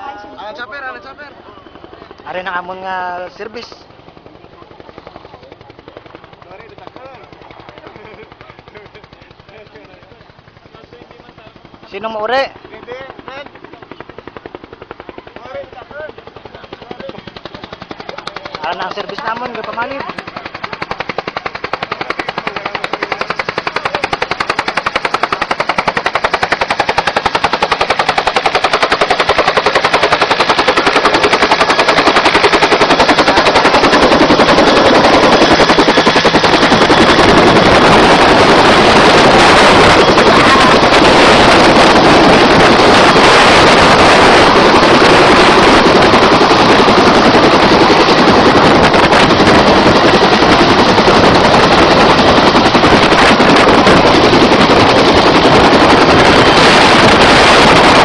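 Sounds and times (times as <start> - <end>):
helicopter rotor chopping: 0.0 - 58.0.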